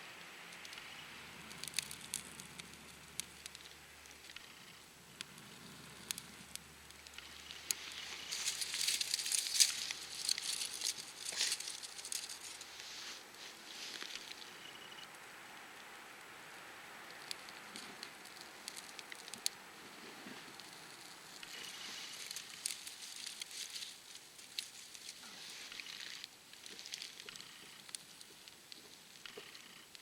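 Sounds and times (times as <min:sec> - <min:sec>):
kindling fire crackling: 0:00.1 - 0:30.0.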